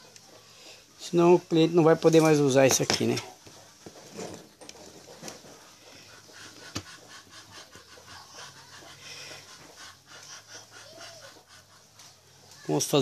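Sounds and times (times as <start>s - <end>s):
rhythmic panting: 0.0s - 13.0s.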